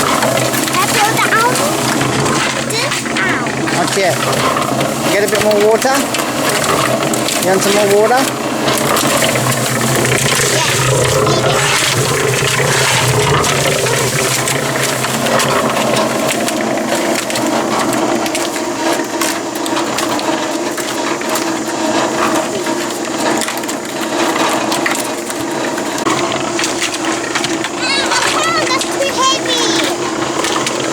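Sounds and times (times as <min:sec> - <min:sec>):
concrete mixer drum turning: 0:00.0 - 0:30.9
motor hum: 0:00.0 - 0:30.9
sand churning gritty scrape: 0:00.0 - 0:30.9.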